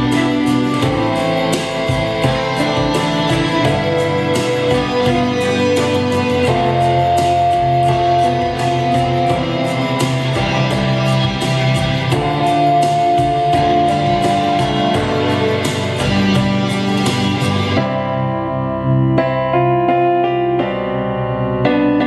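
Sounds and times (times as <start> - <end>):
guitar music through speaker: 0.0 - 22.0.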